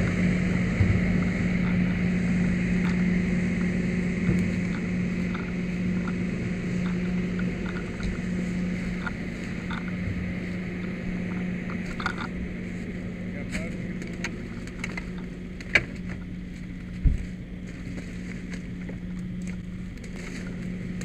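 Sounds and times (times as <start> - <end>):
fire truck engine idling: 0.0 - 21.0.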